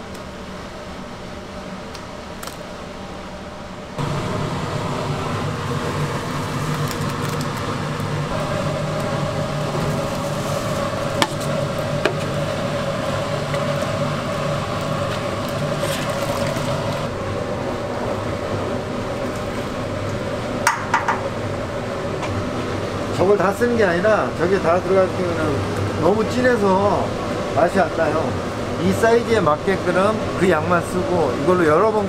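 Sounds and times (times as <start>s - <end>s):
gas burner humming: 0.0s - 32.0s.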